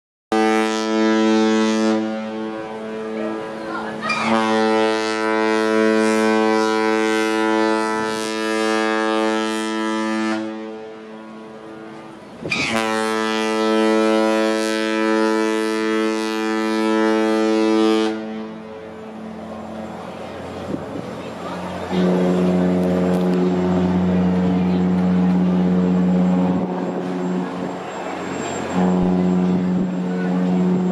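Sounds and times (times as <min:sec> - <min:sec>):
ship's horn blasts: 0:00.3 - 0:30.9.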